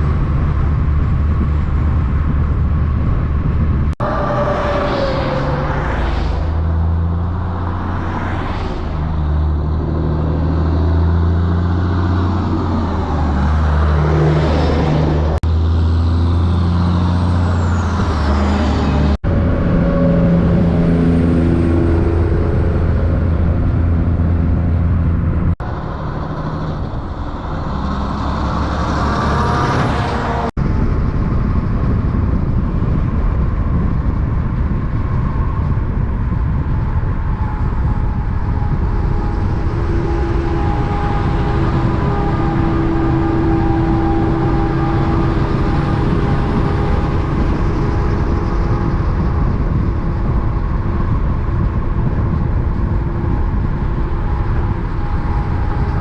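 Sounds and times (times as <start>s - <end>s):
diesel truck engines droning: 0.0s - 56.0s.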